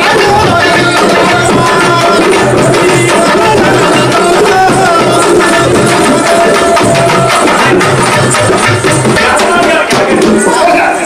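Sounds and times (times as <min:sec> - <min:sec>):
hand drums playing rhythm: 0:00.0 - 0:10.8.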